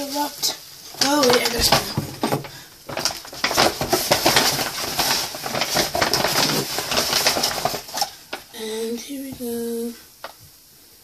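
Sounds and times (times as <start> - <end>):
rustling and crackling handling noise: 0.0 - 10.6.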